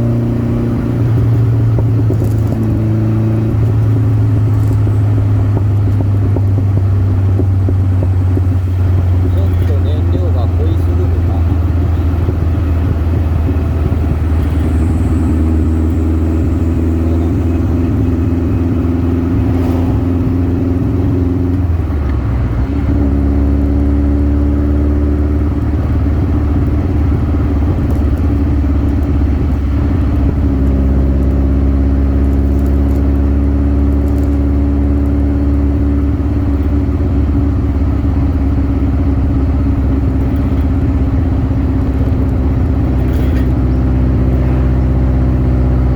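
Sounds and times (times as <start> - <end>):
road and wind noise: 0.0 - 45.9
sports car engine running: 0.0 - 45.9.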